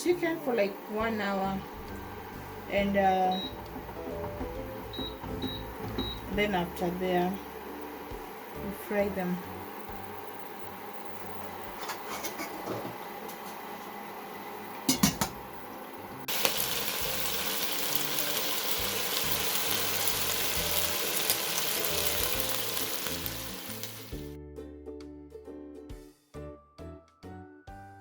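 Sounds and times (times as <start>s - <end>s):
music: 0.0s - 12.0s, 14.9s - 28.0s
chicken frying in hot oil: 0.0s - 24.3s.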